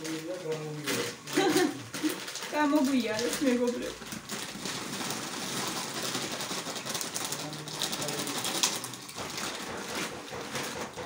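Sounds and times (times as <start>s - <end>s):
dry food pouring from packet: 0.0s - 9.3s.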